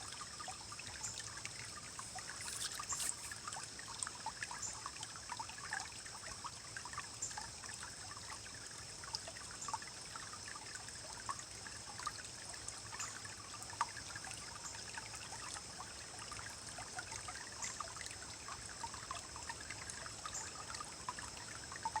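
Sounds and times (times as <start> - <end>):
stream rippling over rocks: 0.0 - 22.0.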